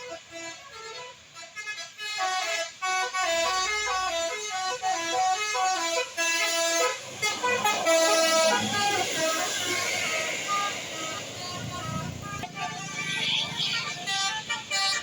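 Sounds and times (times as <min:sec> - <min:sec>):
musical bus air horns: 0:00.0 - 0:15.0.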